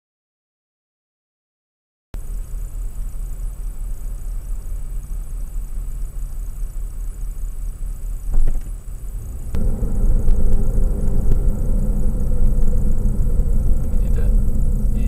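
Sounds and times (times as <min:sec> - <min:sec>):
car idling inside cabin: 0:02.2 - 0:15.0.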